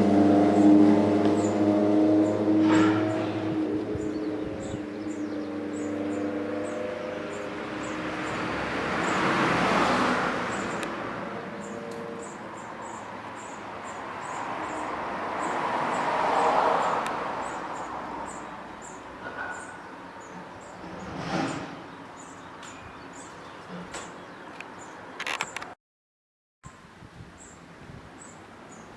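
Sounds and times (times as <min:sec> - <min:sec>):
road vehicles passing: 0:00.0 - 0:25.8.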